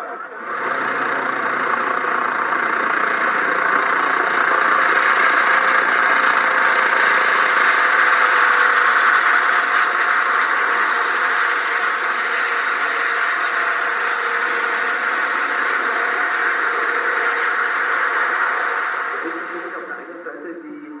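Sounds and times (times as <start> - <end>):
helicopter flying close by: 0.0 - 20.9.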